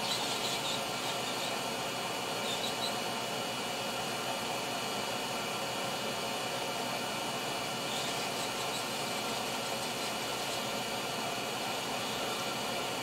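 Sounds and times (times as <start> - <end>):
hot air station blowing: 0.0 - 13.0.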